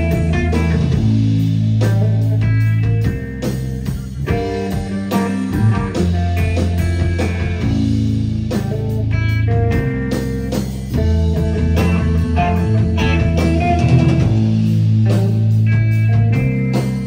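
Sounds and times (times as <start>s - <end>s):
distorted electric guitars: 0.0s - 17.0s
drums and cymbals: 0.0s - 17.0s
low held bass notes: 0.0s - 17.0s.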